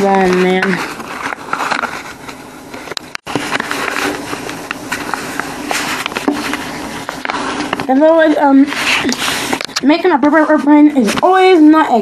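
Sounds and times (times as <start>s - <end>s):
cardboard being folded and creased: 0.0s - 9.6s.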